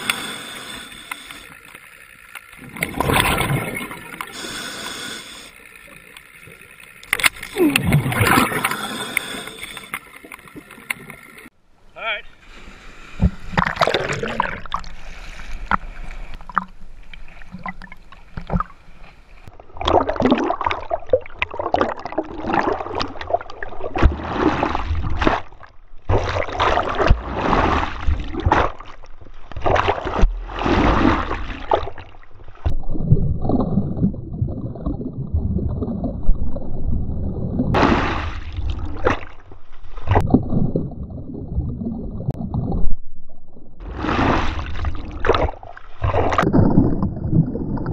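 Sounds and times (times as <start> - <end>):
sea water splashing and rushing: 0.0 - 42.9, 43.8 - 47.9.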